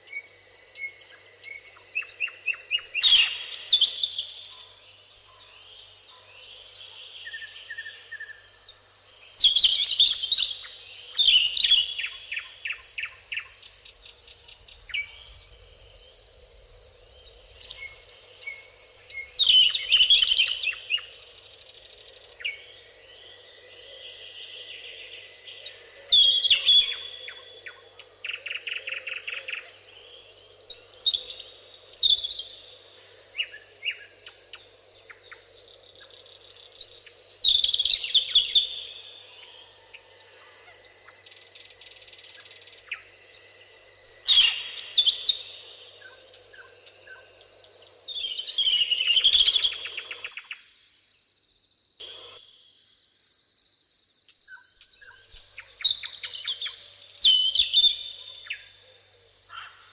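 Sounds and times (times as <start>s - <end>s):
songbirds trilling and chirping: 0.0s - 51.3s, 52.0s - 59.9s.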